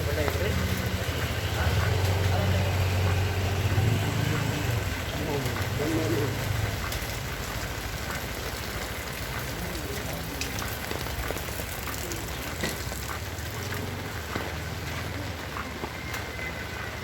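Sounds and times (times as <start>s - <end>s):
raindrops ticking on surfaces: 0.0s - 17.0s.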